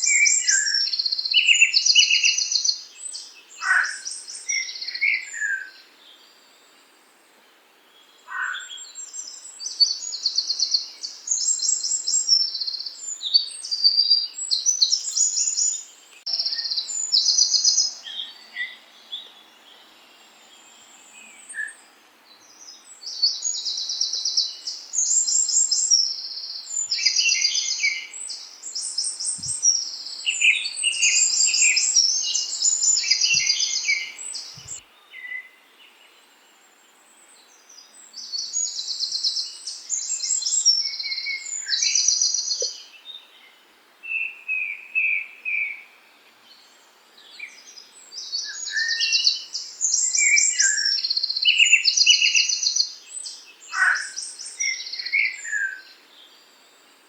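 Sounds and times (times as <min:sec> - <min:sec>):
songbirds trilling chirps: 0:00.0 - 0:57.0.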